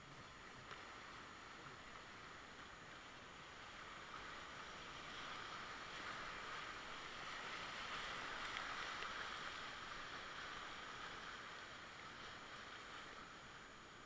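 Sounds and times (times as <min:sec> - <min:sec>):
river rapid whitewater rushing: 0:01.1 - 0:13.7.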